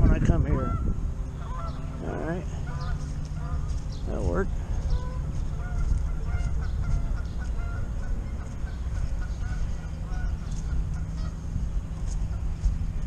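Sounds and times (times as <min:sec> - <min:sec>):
low rumble: 0:00.0 - 0:13.0
geese honking: 0:00.4 - 0:12.8.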